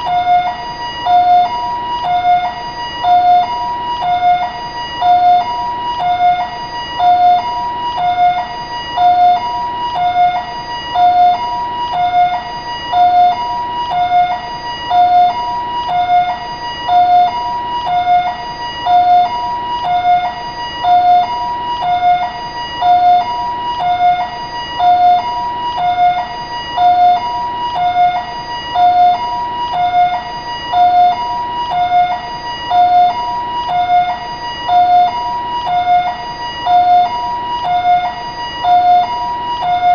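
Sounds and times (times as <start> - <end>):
ambulance siren two-tone hi-lo: 0.0 - 39.9.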